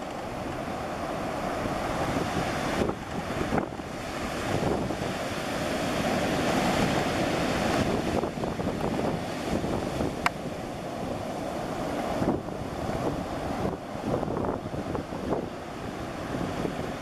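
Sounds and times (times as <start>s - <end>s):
sea surf washing in: 0.0s - 17.0s
wind buffeting microphone: 0.0s - 17.0s.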